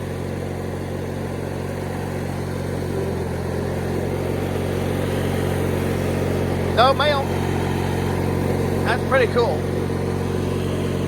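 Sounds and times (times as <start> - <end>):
lawnmower engine humming: 0.0 - 11.0.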